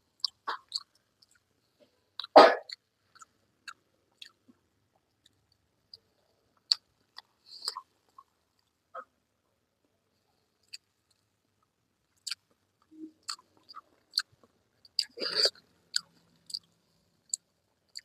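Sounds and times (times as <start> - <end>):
wet chewing clicks: 0.2 - 1.5, 2.2 - 8.8, 10.6 - 16.7, 17.3 - 18.0.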